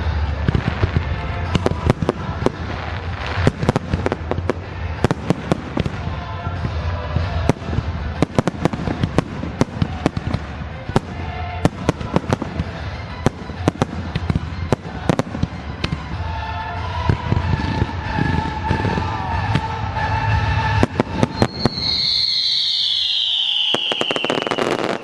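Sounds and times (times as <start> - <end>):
music with low bass: 0.0 - 21.7
fireworks bangs: 0.0 - 25.0.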